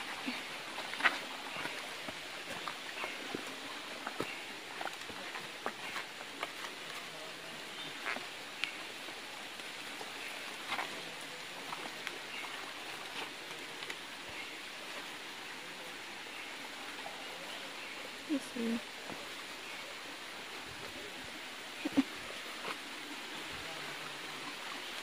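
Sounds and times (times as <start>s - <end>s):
stream rushing: 0.0s - 25.0s.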